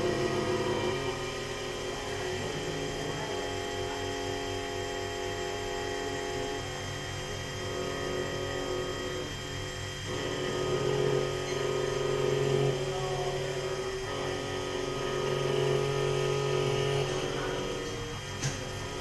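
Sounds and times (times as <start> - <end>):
key cutting machine milling: 0.0 - 19.0.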